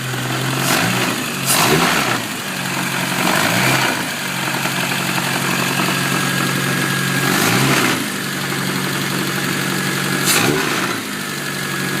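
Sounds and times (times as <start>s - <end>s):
car engine idling and revving: 0.0s - 12.0s
loud engine knocking: 0.0s - 12.0s.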